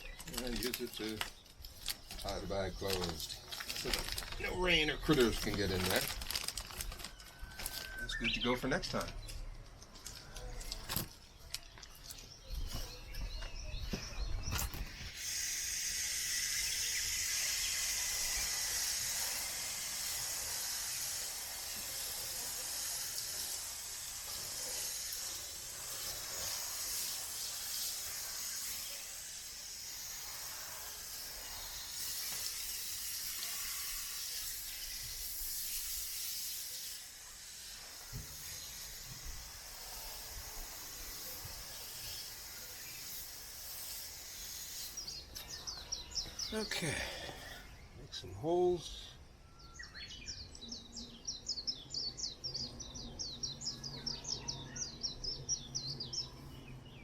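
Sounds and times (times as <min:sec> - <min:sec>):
steady hiss: 0:00.0 - 0:12.5, 0:13.9 - 0:53.9.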